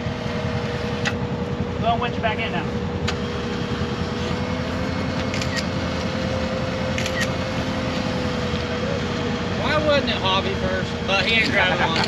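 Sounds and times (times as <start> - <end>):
engine whining and rumbling: 0.0 - 12.0.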